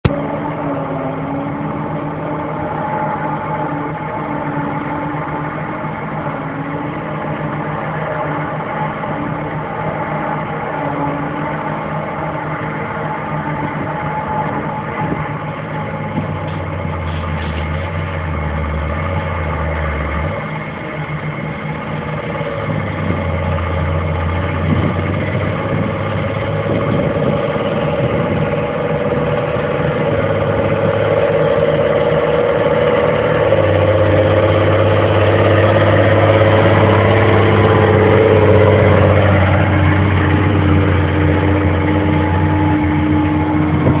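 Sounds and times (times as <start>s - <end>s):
diesel engine drone: 0.0s - 44.0s
forage harvester machine whine: 0.0s - 44.0s.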